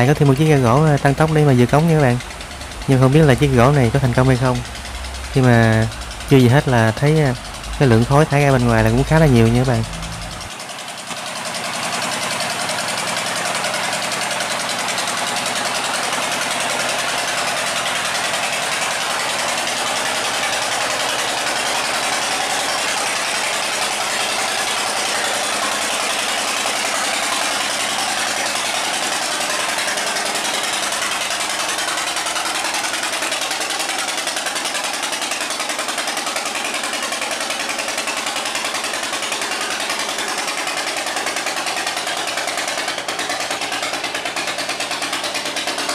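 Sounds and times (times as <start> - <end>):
boat diesel engine running hard: 0.0 - 45.9
churning water: 0.0 - 45.9.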